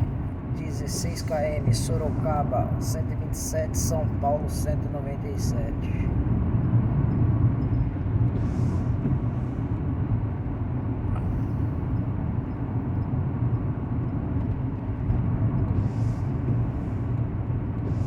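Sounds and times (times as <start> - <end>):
truck engine and tyre noise: 0.0 - 18.0.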